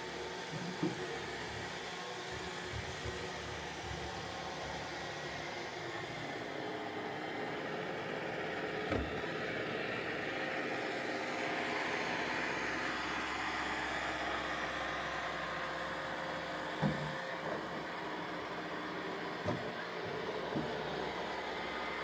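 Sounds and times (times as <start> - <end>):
robot vacuum cleaner hum: 0.0 - 22.0.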